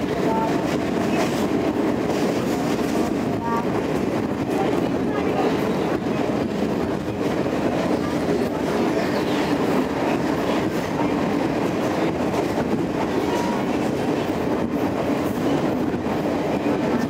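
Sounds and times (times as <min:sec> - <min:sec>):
train carriage rumbling: 0:00.0 - 0:17.0.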